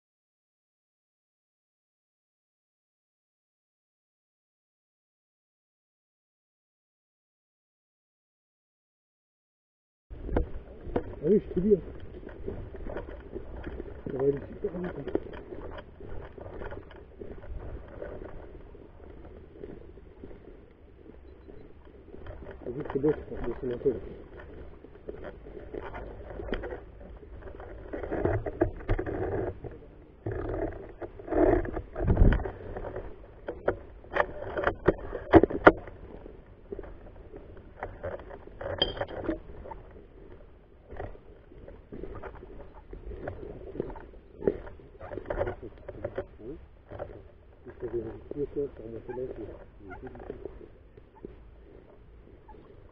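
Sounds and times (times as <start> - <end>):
microphone handling rumble: 10.1 - 52.9
wind noise on microphone: 10.1 - 52.9
clothing and foliage rustling: 10.2 - 52.9
small clicks and scrapes: 10.2 - 52.9.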